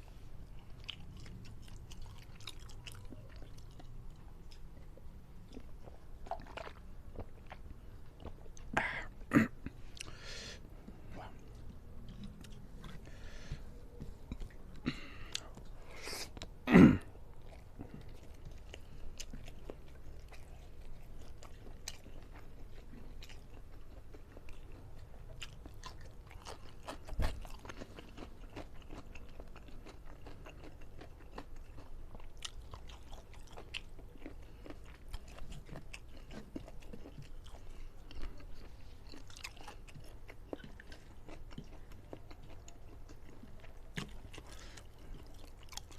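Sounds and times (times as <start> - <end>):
chewing and biting: 0.4 - 16.6, 17.2 - 45.9.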